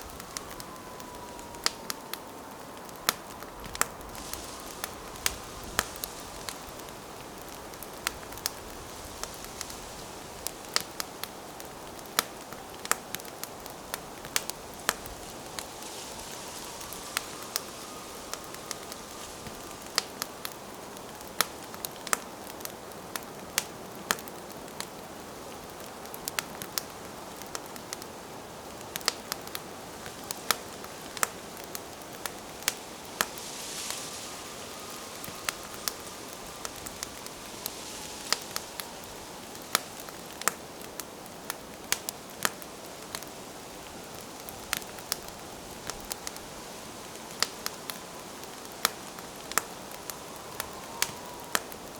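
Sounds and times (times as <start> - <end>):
campfire crackling and popping: 0.0 - 51.9
soft fire hiss: 0.0 - 51.9.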